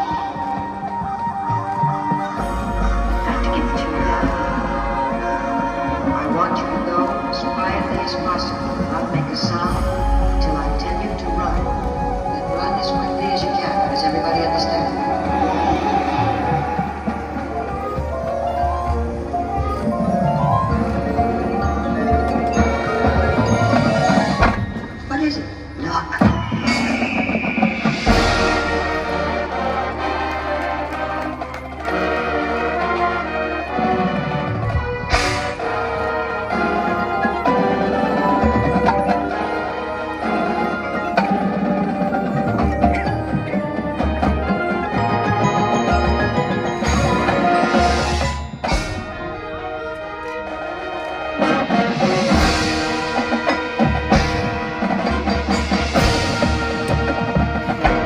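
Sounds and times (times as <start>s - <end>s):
marching band playing: 0.0s - 58.0s
percussion: 0.0s - 58.0s.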